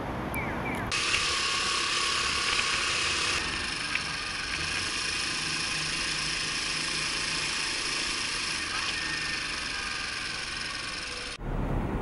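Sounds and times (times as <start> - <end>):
small motorcycle engine running: 0.9 - 11.4.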